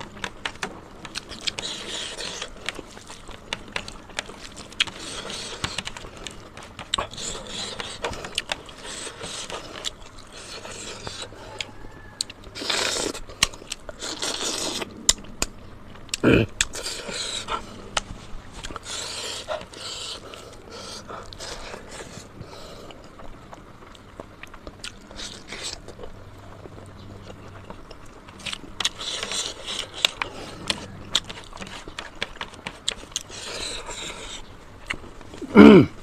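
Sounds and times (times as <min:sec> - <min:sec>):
person chewing and biting: 0:00.0 - 0:35.6.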